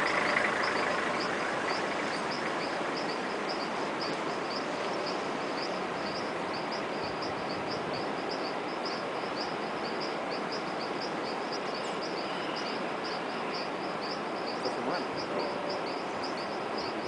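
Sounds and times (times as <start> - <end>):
high chirping call: 0.0 - 17.0
waterfall roaring: 0.0 - 17.0.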